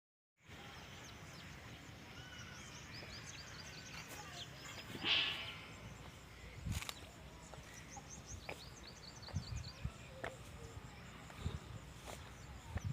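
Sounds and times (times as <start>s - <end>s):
background hiss: 0.4s - 12.9s
small birds chirping: 0.4s - 12.9s.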